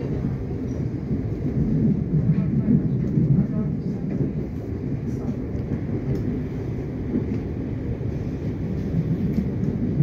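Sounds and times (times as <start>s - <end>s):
train cabin rumble: 0.0s - 10.0s.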